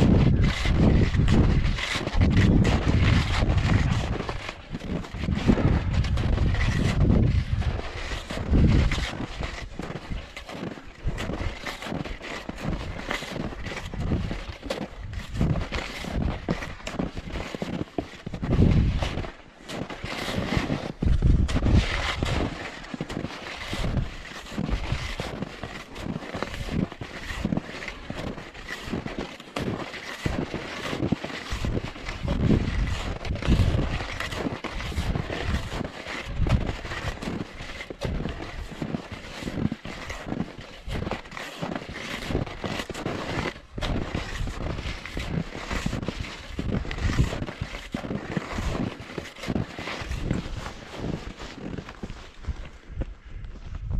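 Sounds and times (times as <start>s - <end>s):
skis crunching through snow: 0.0s - 53.9s.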